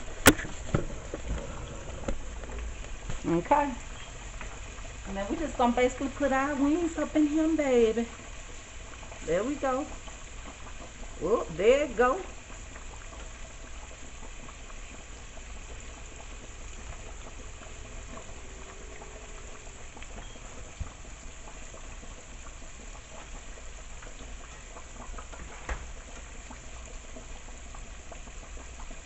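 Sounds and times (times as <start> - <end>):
chicken wings sizzling in sauce: 0.0 - 29.0.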